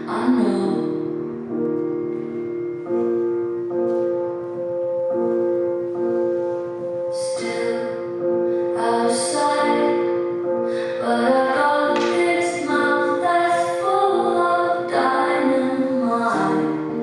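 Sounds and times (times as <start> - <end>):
instrumental music with sustained chords: 0.0 - 17.0.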